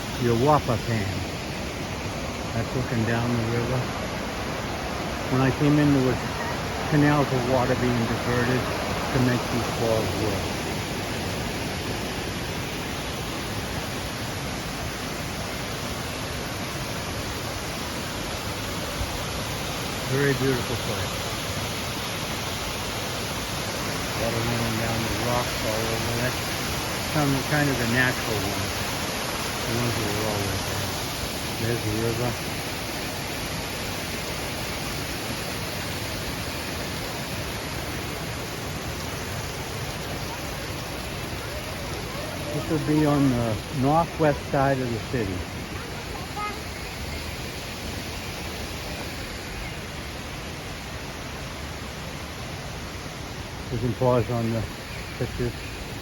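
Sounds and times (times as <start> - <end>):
falling water rushing: 0.0 - 56.0.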